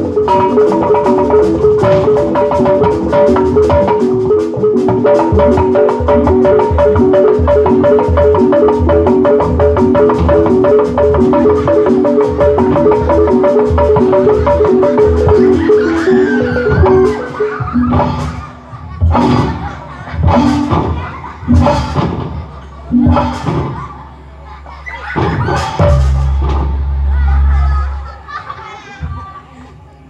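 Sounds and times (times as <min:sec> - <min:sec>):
metallophones playing fast melody: 0:00.0 - 0:28.8
drum strokes: 0:00.0 - 0:29.3.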